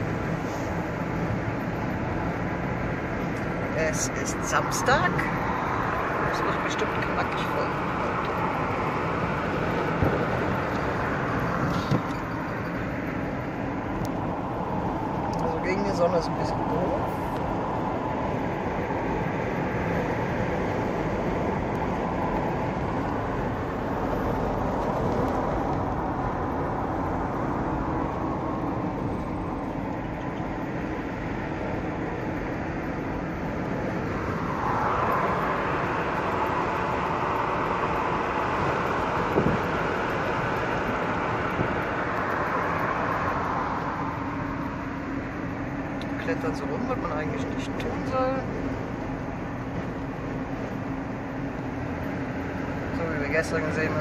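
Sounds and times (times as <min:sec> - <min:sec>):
road and engine noise inside car: 0:00.0 - 0:54.0.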